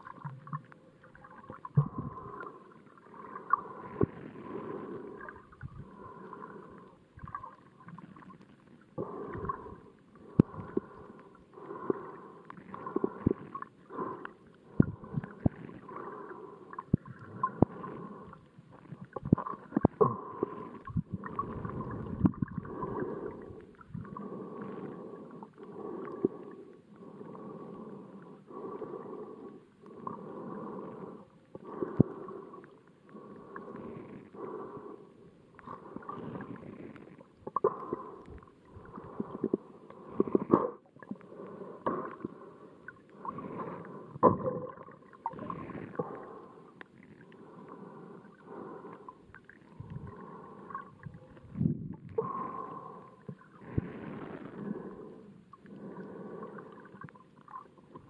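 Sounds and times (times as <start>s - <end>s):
muffled underwater water noise: 0.0s - 58.0s.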